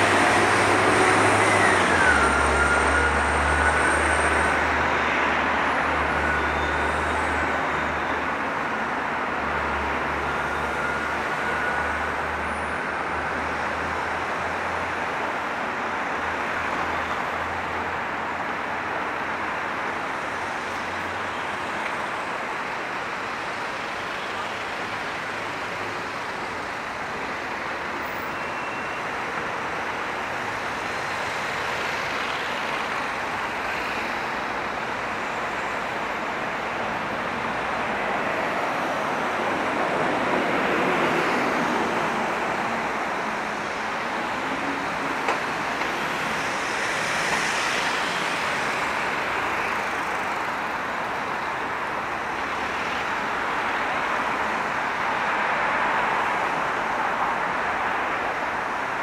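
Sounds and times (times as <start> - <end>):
cars passing on street: 0.0 - 59.0.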